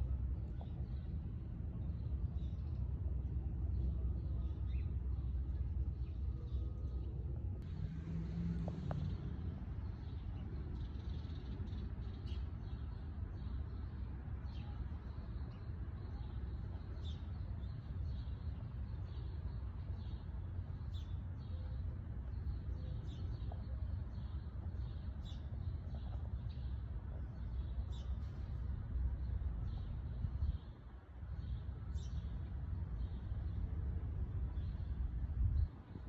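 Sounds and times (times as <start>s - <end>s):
distant city traffic rumble: 0.0s - 36.0s.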